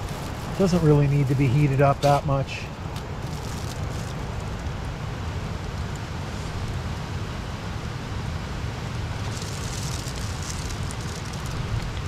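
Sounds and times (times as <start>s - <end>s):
camping stove flame rushing: 0.0s - 12.0s.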